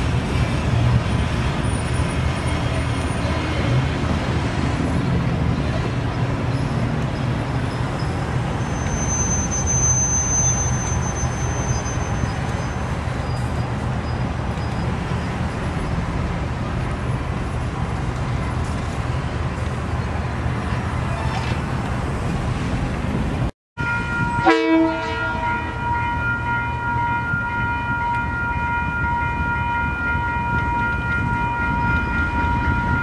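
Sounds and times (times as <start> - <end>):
diesel locomotive engine rumbling: 0.0 - 33.0.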